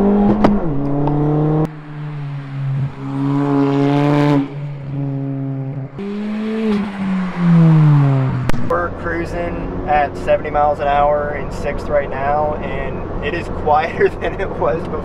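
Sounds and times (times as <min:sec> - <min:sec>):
car engine and exhaust droning: 0:00.0 - 0:15.0.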